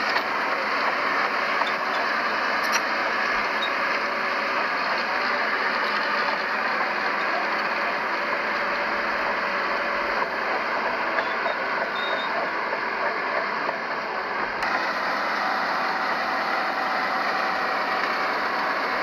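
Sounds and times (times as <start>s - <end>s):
heavy machinery engines running: 0.0s - 19.0s.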